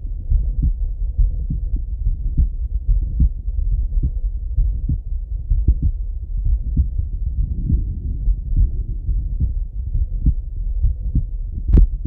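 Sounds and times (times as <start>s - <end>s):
faint steady hum: 0.0s - 12.0s
heartbeat through stethoscope: 0.0s - 12.0s.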